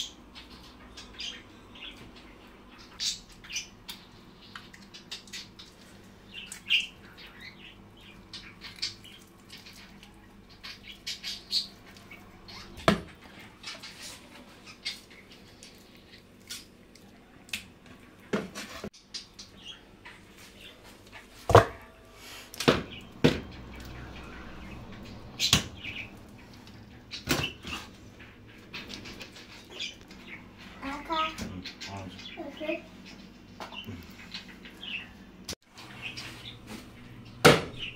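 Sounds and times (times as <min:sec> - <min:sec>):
bird chirping: 0:00.0 - 0:16.8, 0:22.8 - 0:37.9.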